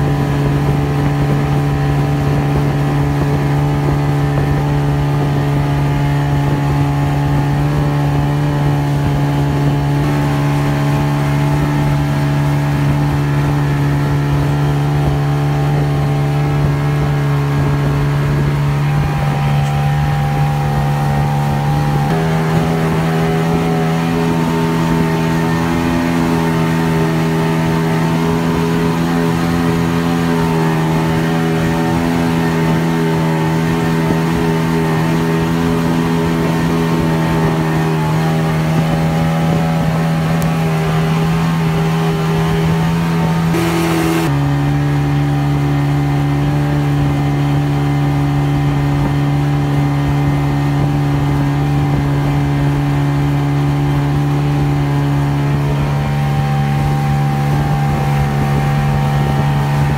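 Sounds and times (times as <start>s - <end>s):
boat engine drone: 0.0s - 59.9s
water rushing along hull: 0.0s - 59.9s.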